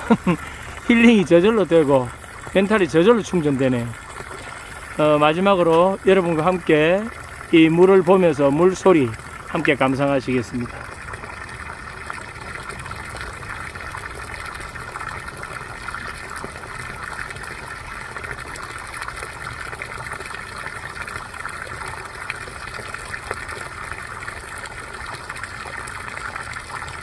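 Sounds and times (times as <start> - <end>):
water gushing and splashing: 0.0 - 27.0.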